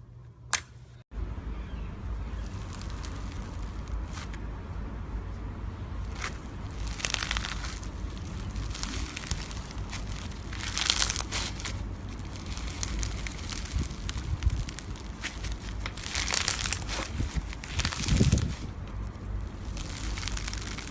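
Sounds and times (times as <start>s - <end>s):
slime crackling when squeezed: 2.3s - 4.4s, 6.0s - 20.9s.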